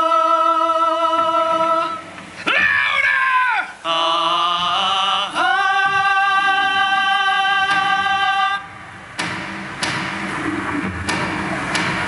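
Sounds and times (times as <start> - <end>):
wordless singing over loudspeakers: 0.0 - 12.0.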